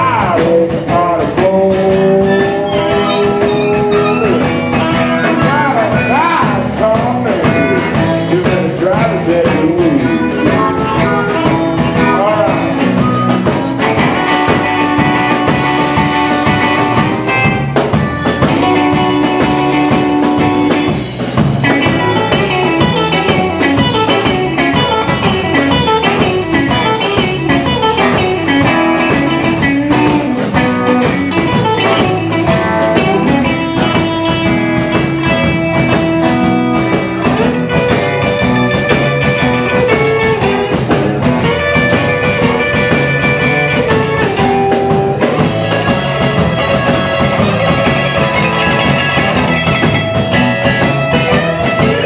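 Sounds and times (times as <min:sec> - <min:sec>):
drums: 0:00.0 - 0:52.0
electric guitar lead: 0:00.0 - 0:52.0.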